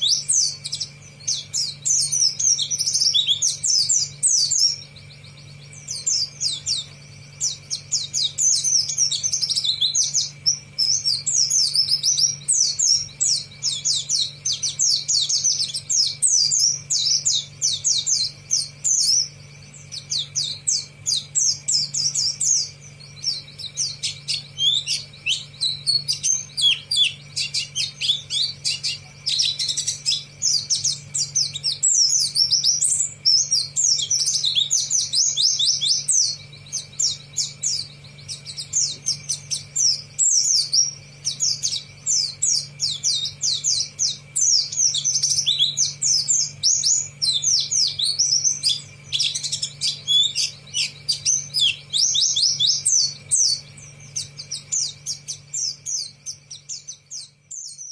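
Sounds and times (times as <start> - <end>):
bird twittering song: 0.0 - 57.9
steady low hum: 0.0 - 57.9.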